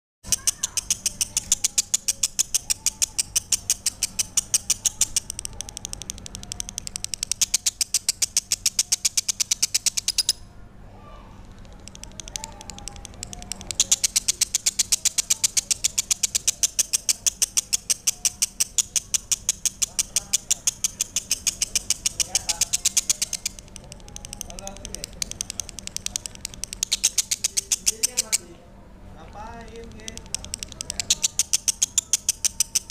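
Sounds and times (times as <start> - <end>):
lovebird chirping: 0.2 - 10.5, 11.8 - 28.5, 30.2 - 32.9.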